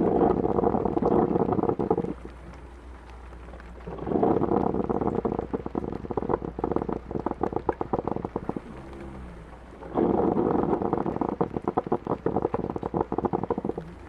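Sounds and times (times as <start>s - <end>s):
coffee pot gurgling and sputtering: 0.0s - 14.0s
low steady hum: 0.0s - 14.0s
soft rain: 0.0s - 14.0s.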